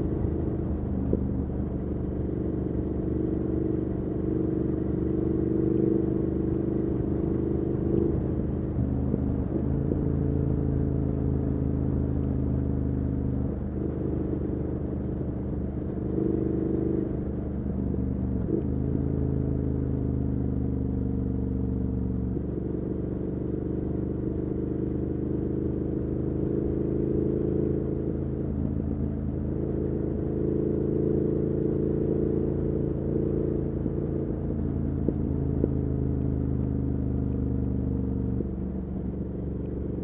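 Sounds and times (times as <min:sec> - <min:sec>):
motorcycle engine while riding: 0:00.0 - 0:40.0.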